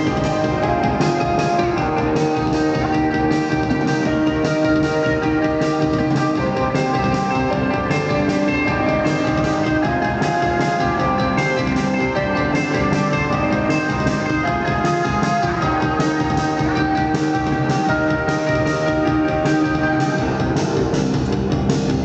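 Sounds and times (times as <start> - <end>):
electric guitar: 0.0 - 22.0
post-punk band playing live: 0.0 - 22.0
steady drum beat: 0.0 - 22.0.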